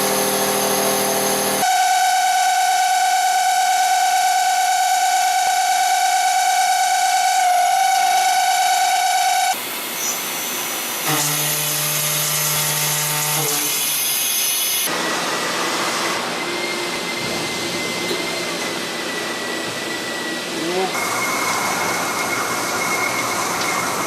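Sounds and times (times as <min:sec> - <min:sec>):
milling machine spindle whine: 0:00.0 - 0:24.0.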